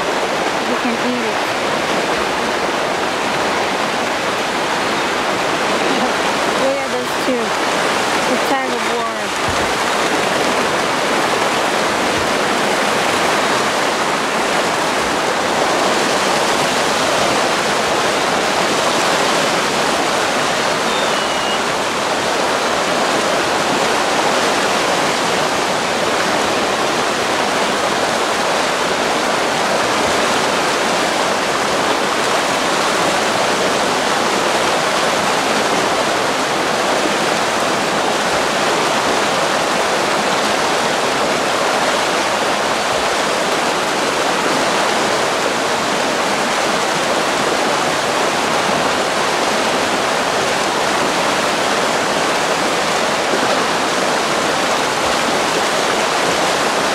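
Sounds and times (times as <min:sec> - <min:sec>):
river running over gravel: 0:00.0 - 0:56.9.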